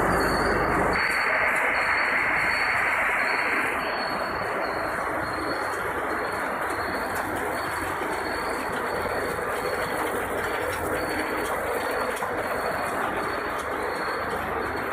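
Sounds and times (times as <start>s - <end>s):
faint high whine: 0.0s - 14.9s
production line machinery running: 0.0s - 14.9s.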